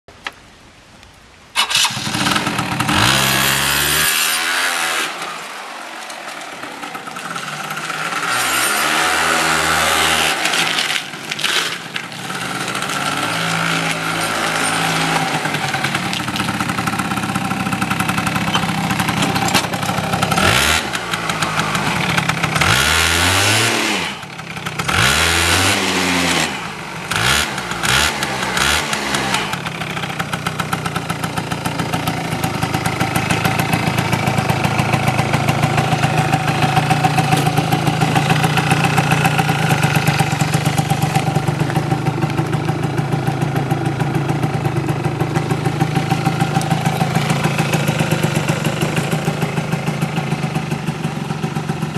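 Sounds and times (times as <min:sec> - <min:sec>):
scooter engine revving: 0:01.6 - 0:51.9.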